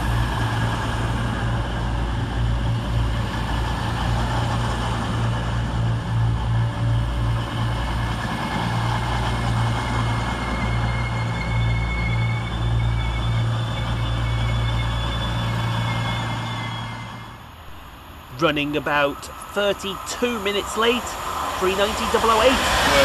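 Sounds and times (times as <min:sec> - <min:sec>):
diesel train engines droning: 0:00.0 - 0:23.0
thin high whine: 0:00.0 - 0:23.0.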